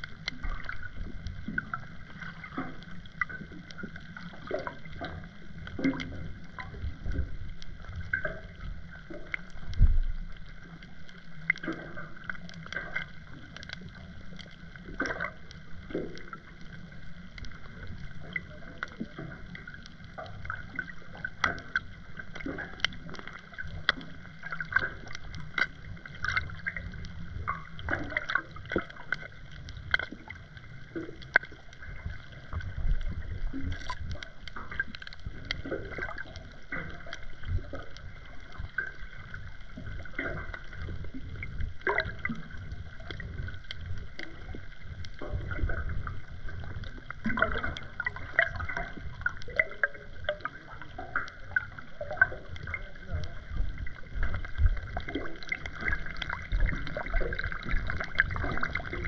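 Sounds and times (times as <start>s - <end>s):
sharp underwater clicks and crackles: 0.0s - 59.0s
underwater moving water rumble: 0.0s - 59.0s.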